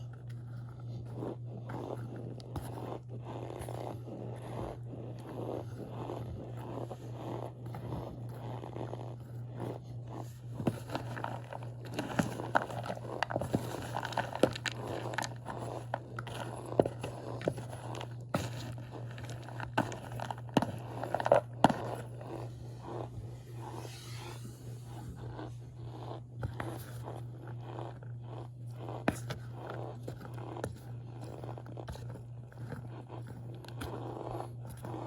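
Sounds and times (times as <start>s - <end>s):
cornstarch crunching and squeaking: 0.3s - 35.0s.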